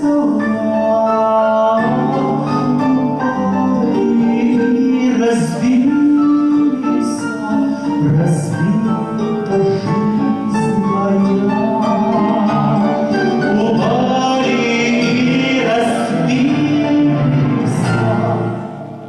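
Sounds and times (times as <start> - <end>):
wavering melody line: 0.0 - 19.0.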